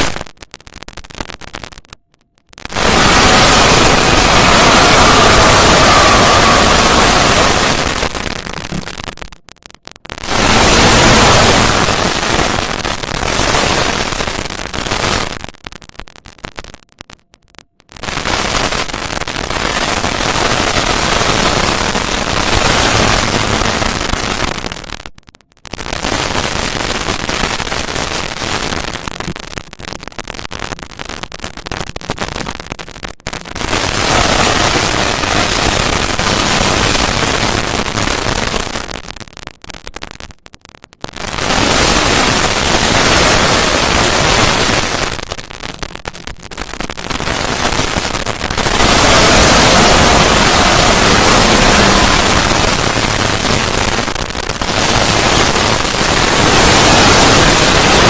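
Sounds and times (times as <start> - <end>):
harsh crackling static noise: 0.0 - 58.0.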